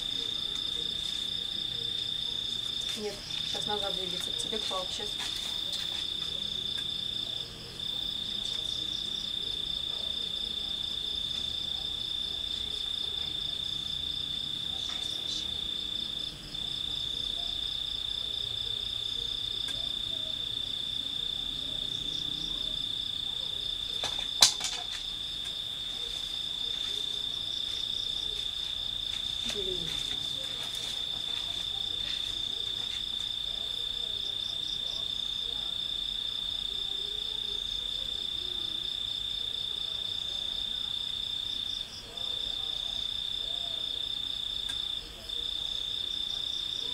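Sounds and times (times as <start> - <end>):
night insect trilling: 0.0 - 46.9.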